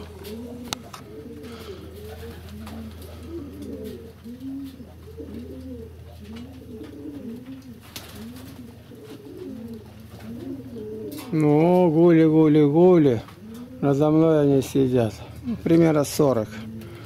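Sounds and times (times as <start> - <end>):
pigeons cooing: 0.0 - 17.0
steady low hum: 0.0 - 17.0.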